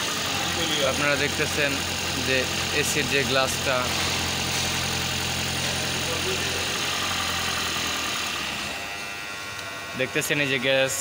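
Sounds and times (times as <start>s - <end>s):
car engine idling hum: 0.1s - 9.9s.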